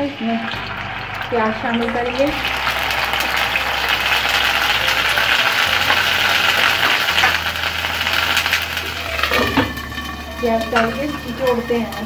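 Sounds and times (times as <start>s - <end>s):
onion paste sizzling in ghee: 0.0s - 12.0s.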